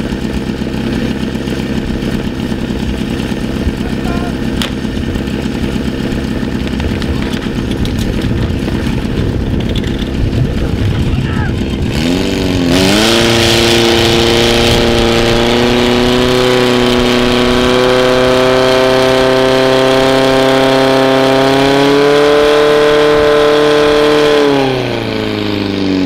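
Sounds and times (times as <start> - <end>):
fire pump engine at full throttle: 0.0 - 26.0.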